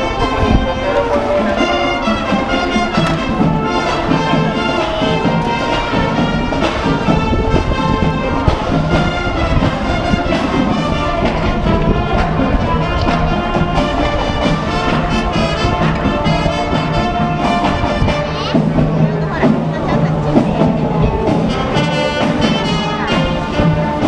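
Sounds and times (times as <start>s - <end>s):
brass marching band playing: 0.0s - 24.0s.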